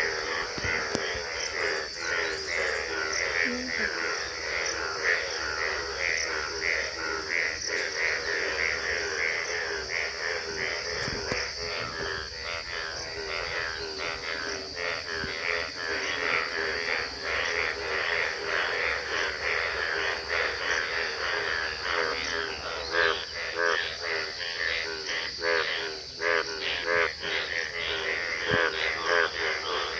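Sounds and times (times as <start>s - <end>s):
frogs croaking: 0.0s - 29.9s.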